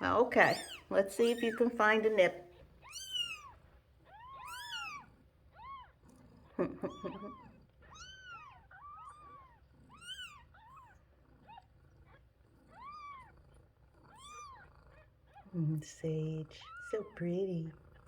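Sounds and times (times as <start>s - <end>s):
kittens mewing: 0.0s - 13.3s, 14.0s - 17.2s.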